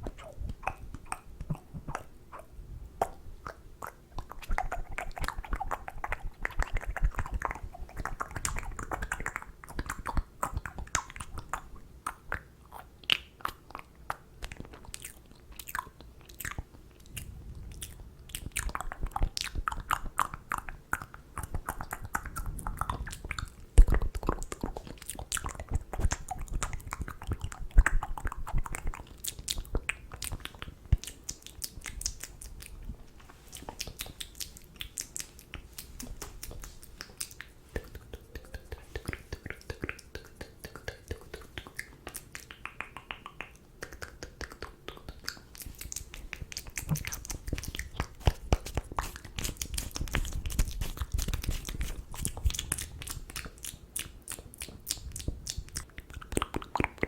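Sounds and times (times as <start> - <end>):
wet mouth clicks and smacks: 0.0 - 57.0.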